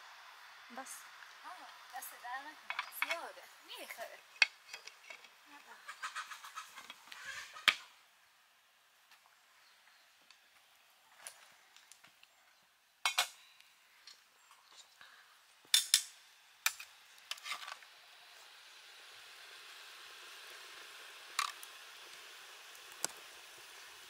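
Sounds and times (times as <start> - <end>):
steady soft hiss: 0.0 - 24.0.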